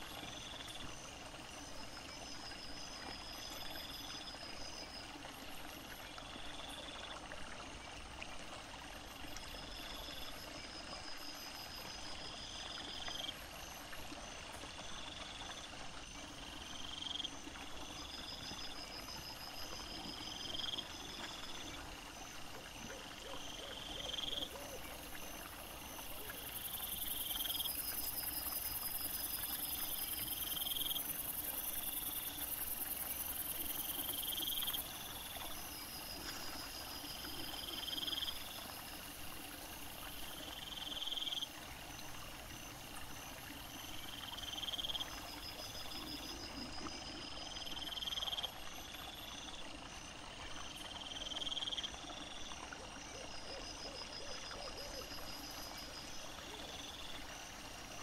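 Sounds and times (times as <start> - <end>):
insects chirping: 0.0 - 7.3, 8.9 - 58.0.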